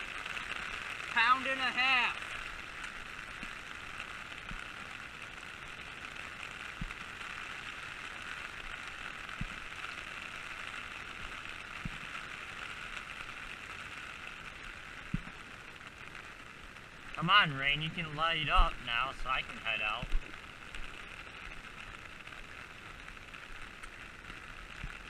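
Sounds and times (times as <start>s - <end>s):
rain hiss: 0.0s - 25.0s.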